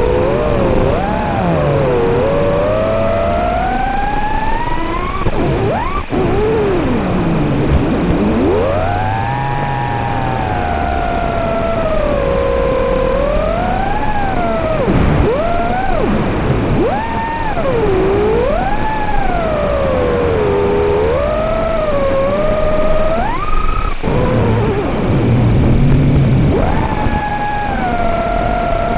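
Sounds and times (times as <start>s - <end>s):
drone motors whining: 0.0s - 28.9s.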